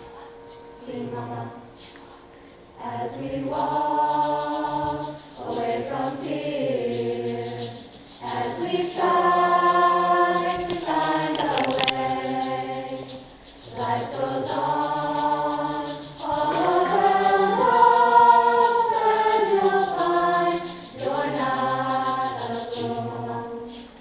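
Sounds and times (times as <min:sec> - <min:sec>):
choir singing slow song: 0:00.0 - 0:24.0.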